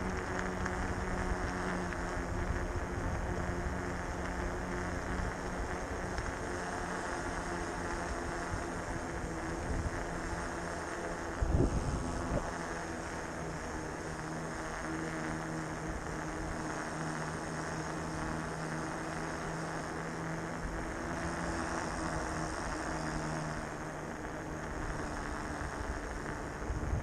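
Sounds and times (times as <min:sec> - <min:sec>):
electric bike motor hum: 0:00.0 - 0:27.0.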